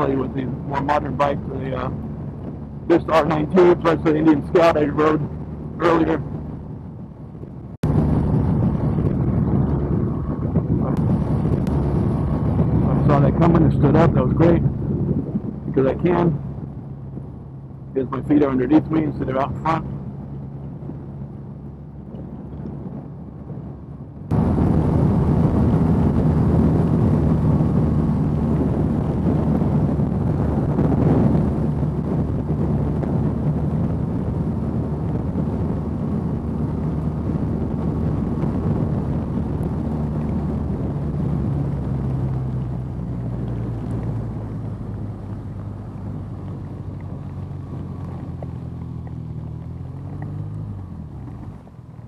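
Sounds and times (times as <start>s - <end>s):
motorcycle engine running: 0.0s - 52.0s
rain noise: 0.0s - 52.0s
wind noise: 0.0s - 52.0s.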